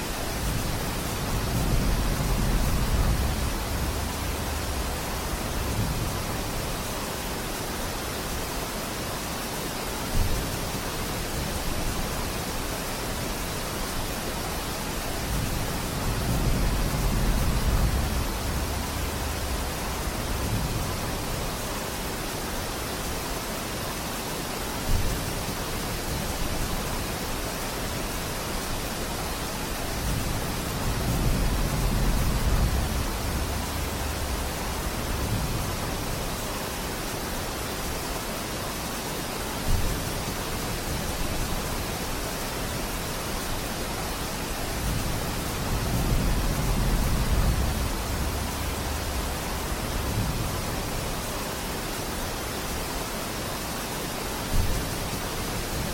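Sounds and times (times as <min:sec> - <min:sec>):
rain on foliage: 0:00.0 - 0:55.9.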